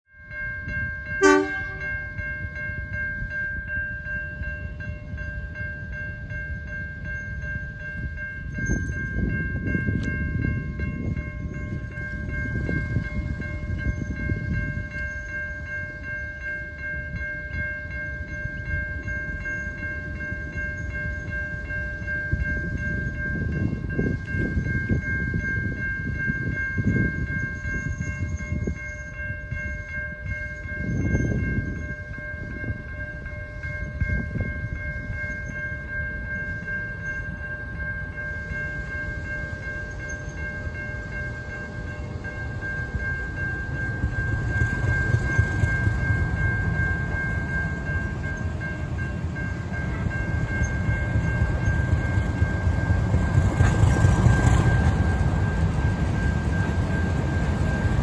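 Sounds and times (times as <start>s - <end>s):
level crossing warning bells: 0.1s - 58.0s
diesel locomotive rumble: 1.1s - 58.0s.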